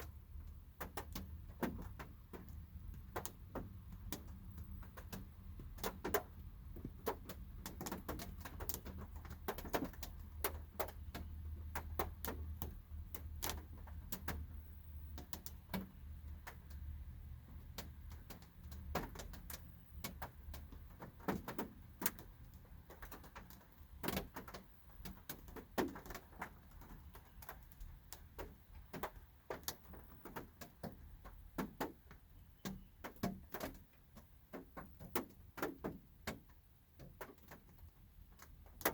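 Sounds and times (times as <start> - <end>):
raindrops tapping on a car: 0.0 - 38.9.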